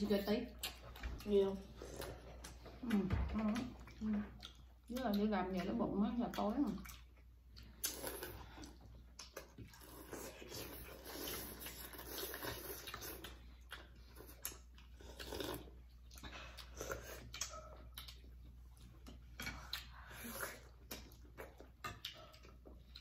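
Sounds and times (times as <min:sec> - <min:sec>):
faint room hum: 0:00.0 - 0:23.0
slurping and chewing: 0:00.2 - 0:03.0, 0:03.6 - 0:05.7, 0:06.3 - 0:23.0.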